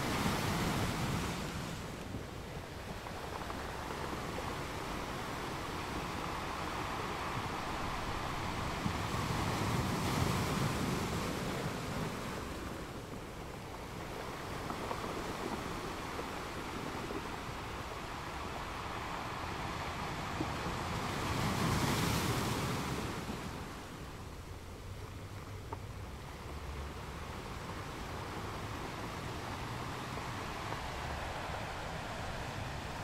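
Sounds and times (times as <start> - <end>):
ocean waves washing in: 0.0 - 25.3, 25.9 - 33.0.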